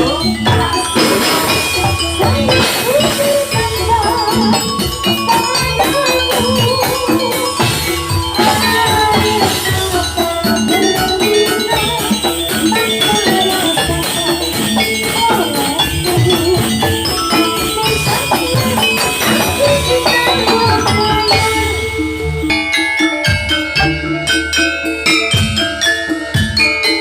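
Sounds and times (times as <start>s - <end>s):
metallophones and gongs ringing: 0.0s - 27.0s.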